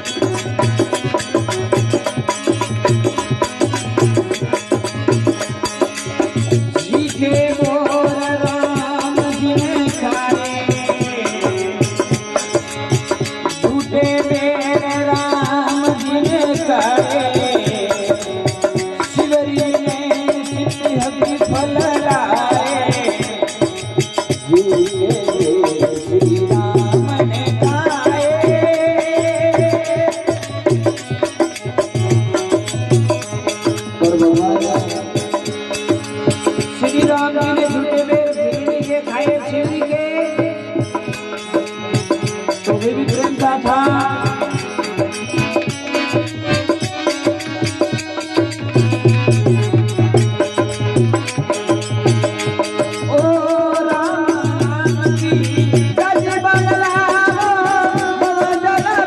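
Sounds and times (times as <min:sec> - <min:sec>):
steady pulsing drum beat: 0:00.0 - 0:59.0
folk devotional singing: 0:02.7 - 0:59.0.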